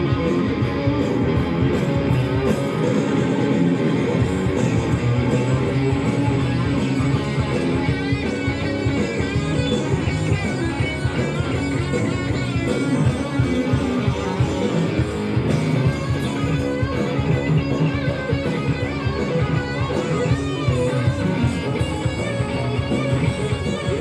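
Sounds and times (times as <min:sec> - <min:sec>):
bass guitar: 0:00.0 - 0:24.0
electric guitars: 0:00.0 - 0:24.0
steady drum beat: 0:00.0 - 0:24.0.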